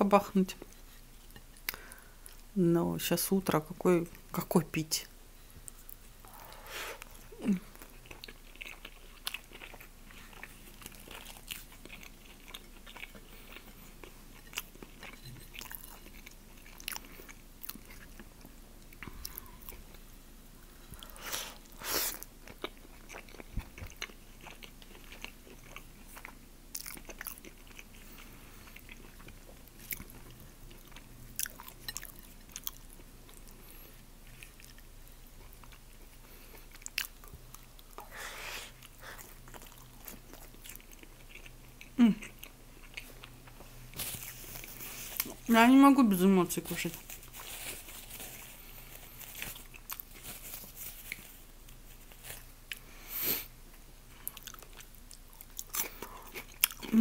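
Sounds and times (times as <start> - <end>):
person chewing food: 5.6 - 45.5, 46.9 - 57.0.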